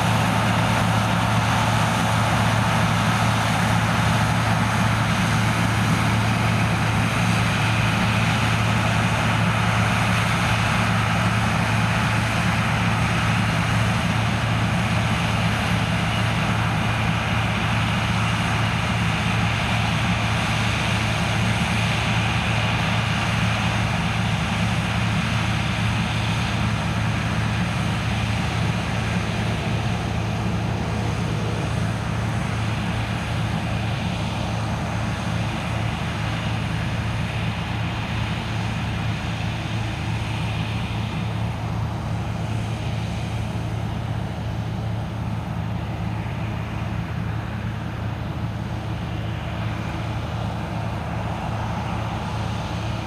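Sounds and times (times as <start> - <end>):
broad mechanical noise: 0.0 - 53.0
low engine hum: 0.0 - 53.0.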